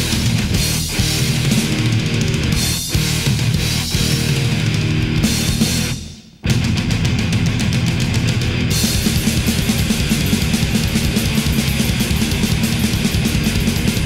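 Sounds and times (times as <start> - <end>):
thrash metal band playing: 0.0 - 14.0.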